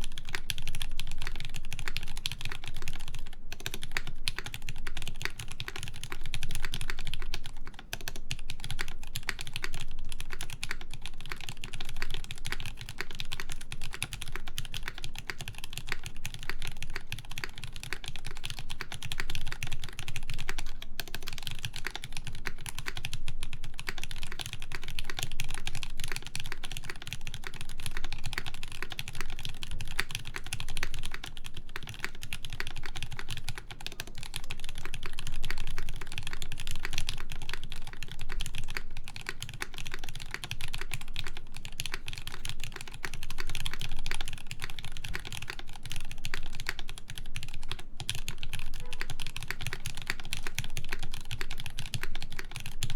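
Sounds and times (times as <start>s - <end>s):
mechanical keyboard typing: 0.0s - 52.9s.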